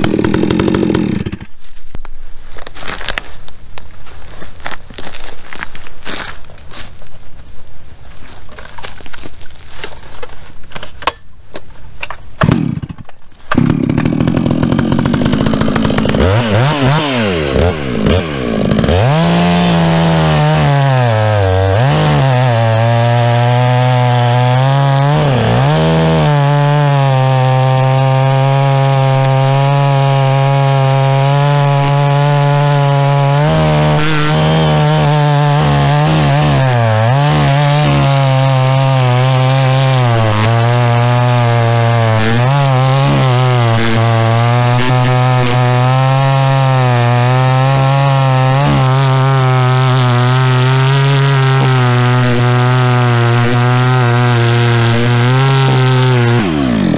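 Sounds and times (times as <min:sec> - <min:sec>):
chainsaw cutting wood: 0:00.0 - 0:01.6, 0:12.4 - 0:56.9.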